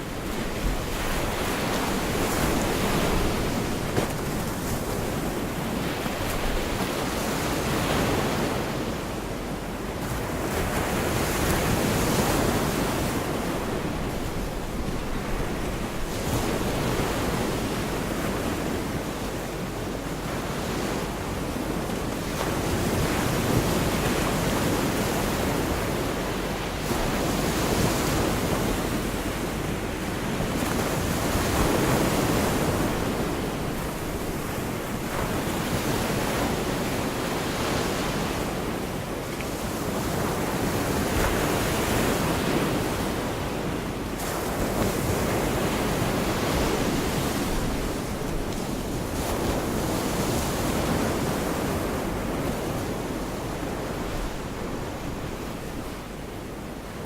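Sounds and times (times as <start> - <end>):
surf washing onto beach: 0.0 - 9.0, 10.0 - 57.0
wind rumbling on microphone: 0.0 - 9.0, 9.8 - 57.0.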